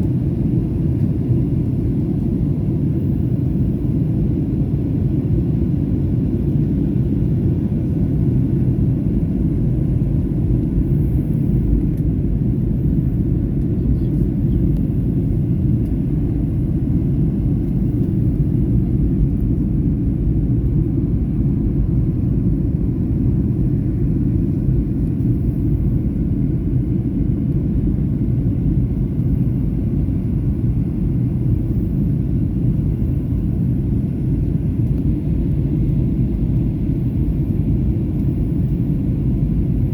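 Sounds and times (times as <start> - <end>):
airflow over fuselage: 0.0 - 39.9
jet engines rumbling in cabin: 0.0 - 39.9.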